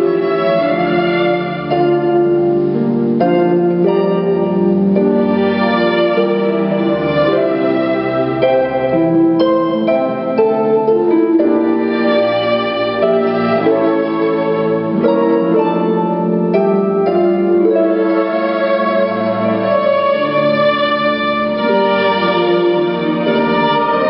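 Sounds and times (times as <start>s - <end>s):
cellos and double basses: 0.0s - 24.0s
concert harp: 0.0s - 24.0s
violins holding notes: 0.0s - 24.0s.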